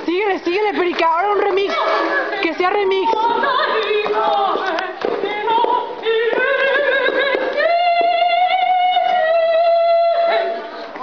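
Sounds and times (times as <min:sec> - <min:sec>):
woman singing operatically: 0:00.1 - 0:11.0.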